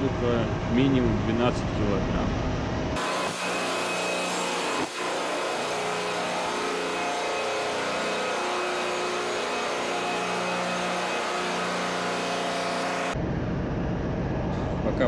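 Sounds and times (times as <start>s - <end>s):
engine room machinery hum: 0.0s - 15.0s.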